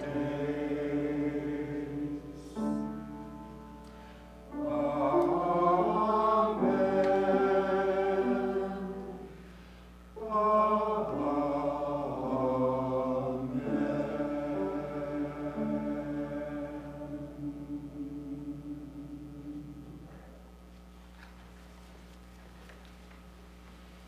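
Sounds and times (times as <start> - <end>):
church choir singing: 0.0 - 20.6.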